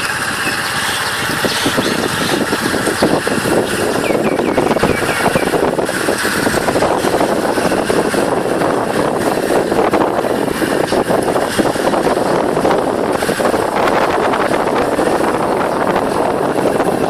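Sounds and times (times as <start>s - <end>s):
motorbike engine running: 0.0s - 17.0s
wind buffeting microphone: 0.0s - 17.0s.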